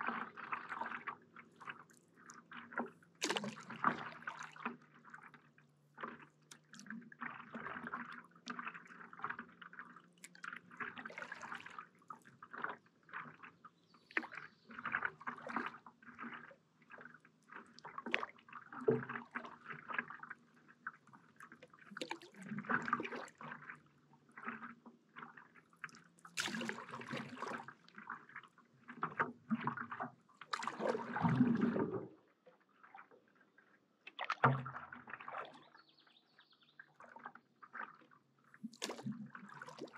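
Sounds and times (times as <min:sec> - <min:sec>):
paddle splashing in water: 0:00.0 - 0:33.1, 0:34.0 - 0:39.9.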